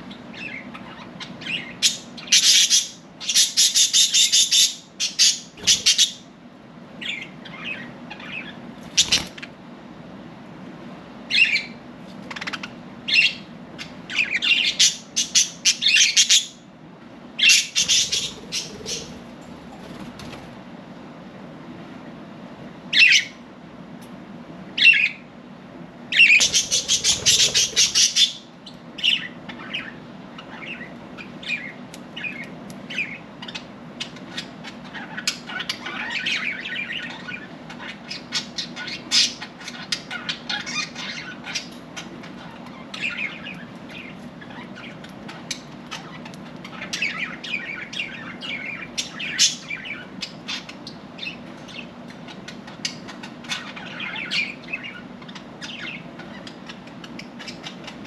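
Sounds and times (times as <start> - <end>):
steady low hum: 0.0 - 58.0
budgerigars chirping and chattering: 0.1 - 6.3, 7.0 - 9.5, 11.3 - 16.6, 17.4 - 19.2, 24.8 - 25.2, 26.1 - 58.0.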